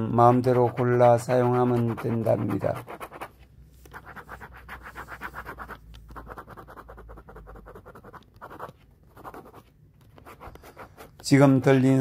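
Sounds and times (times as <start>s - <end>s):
stylus scratching on glass screen: 0.0s - 12.0s.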